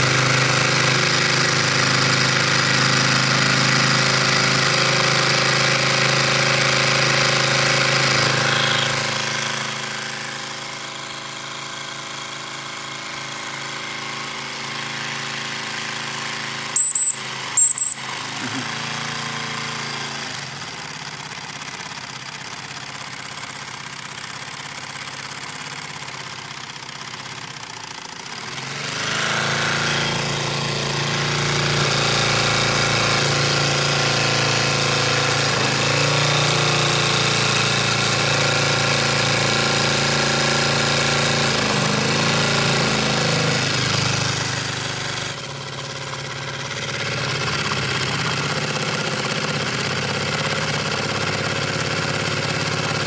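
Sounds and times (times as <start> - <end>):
model steam engine running: 0.0 - 53.0.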